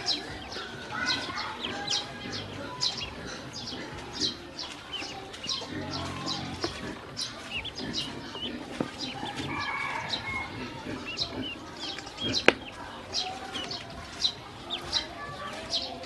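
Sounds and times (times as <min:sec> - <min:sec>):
ducklings peeping: 0:00.0 - 0:16.0.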